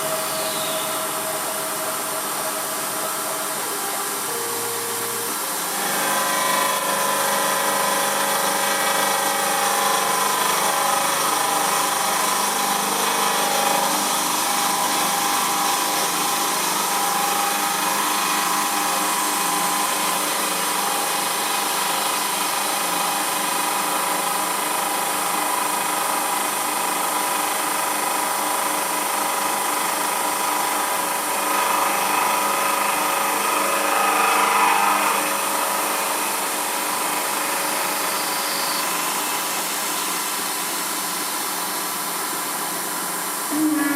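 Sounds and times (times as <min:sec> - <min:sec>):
milling machine whine: 0:00.0 - 0:43.9.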